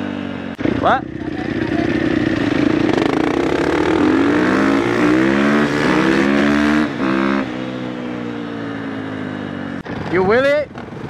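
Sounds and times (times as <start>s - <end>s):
dirt bike engine accelerating: 0.0s - 11.0s.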